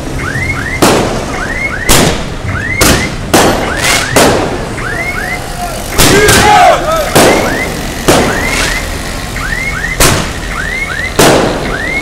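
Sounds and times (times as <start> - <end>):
fireworks exploding: 0.6 - 5.2, 5.8 - 9.1, 9.8 - 12.0.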